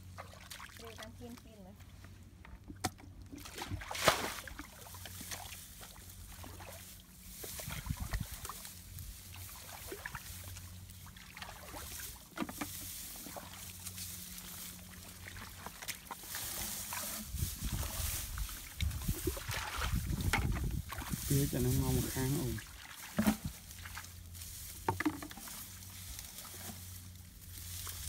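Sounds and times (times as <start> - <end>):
muddy water splashing: 0.0 - 1.8, 2.4 - 28.0
low steady hum: 0.0 - 28.0.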